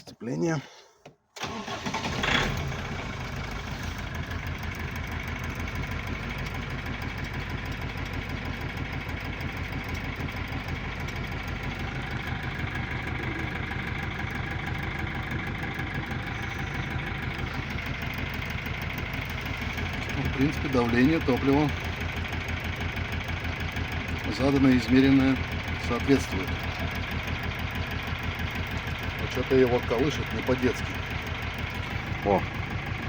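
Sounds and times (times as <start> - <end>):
diesel engine idling roughly: 1.4 - 33.0.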